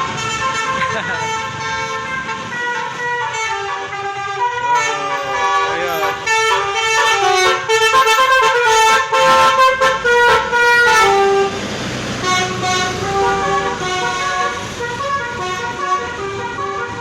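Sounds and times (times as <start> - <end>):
bus engine: 0.0 - 17.0
musical air horn melody: 0.1 - 11.6, 12.2 - 17.0.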